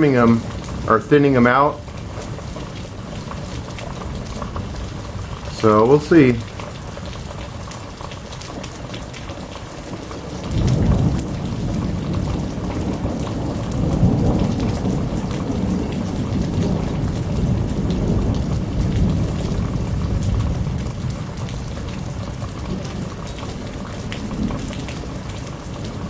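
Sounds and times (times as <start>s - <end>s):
thunder rumbling: 0.0s - 7.2s, 10.1s - 26.0s
heavy rain pouring: 0.0s - 26.0s.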